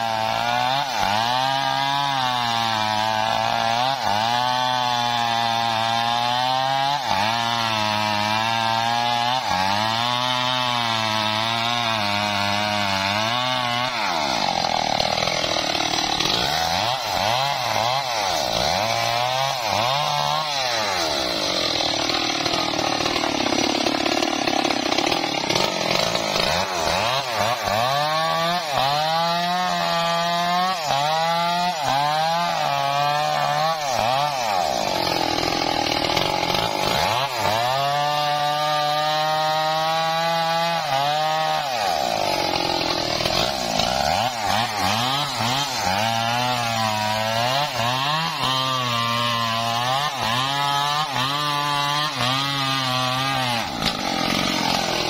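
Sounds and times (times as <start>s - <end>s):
chainsaw cutting a tree: 0.0s - 55.0s.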